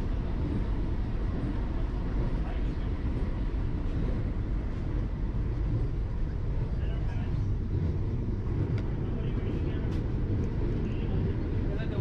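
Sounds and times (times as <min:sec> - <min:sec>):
train coach interior rumble: 0:00.0 - 0:12.0.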